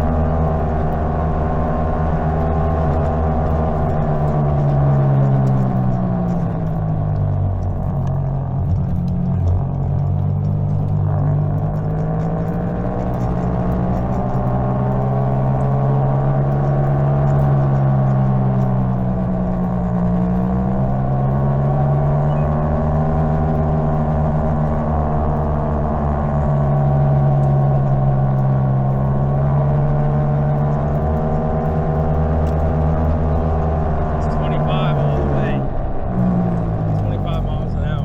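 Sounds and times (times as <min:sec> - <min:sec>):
low rumble: 0:00.0 - 0:38.0.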